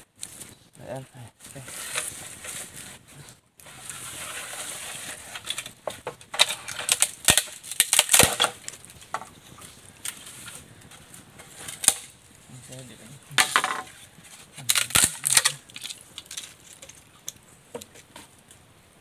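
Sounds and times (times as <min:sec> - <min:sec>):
bamboo crackling in campfire: 0:00.0 - 0:19.0
light steady hiss: 0:00.0 - 0:19.0.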